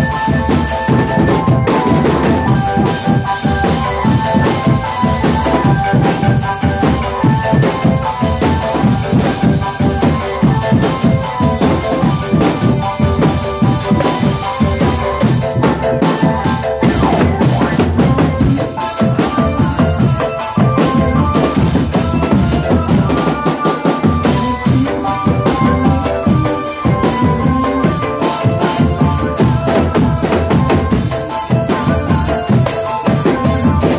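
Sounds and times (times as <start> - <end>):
keyboard melody over loudspeakers: 0.0 - 33.9
marching snare drums: 0.0 - 33.9
tenor drums: 0.0 - 33.9.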